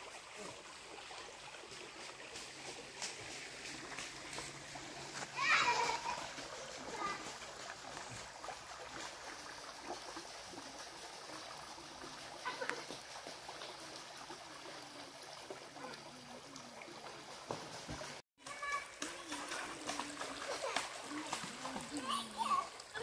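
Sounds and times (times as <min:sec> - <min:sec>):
stream trickling over stones: 0:00.0 - 0:23.0.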